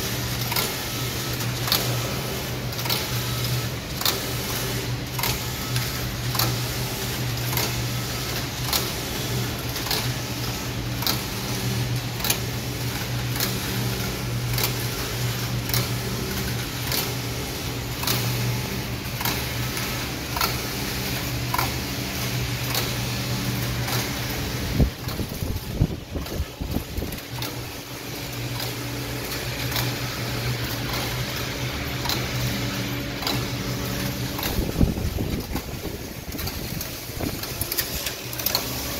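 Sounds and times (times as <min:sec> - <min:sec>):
knitting machine humming: 0:00.0 - 0:38.9
sharp machine clicks: 0:00.0 - 0:38.9.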